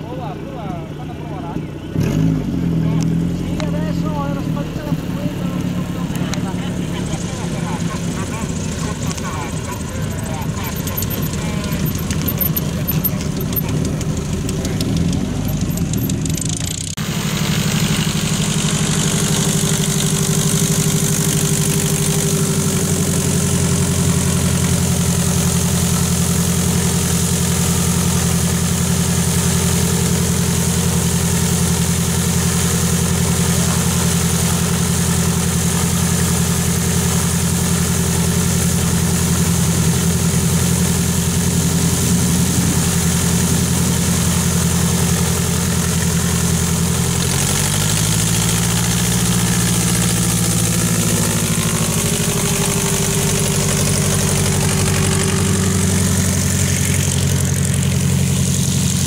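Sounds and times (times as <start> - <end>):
airplane piston engine idling: 3.6 - 59.0.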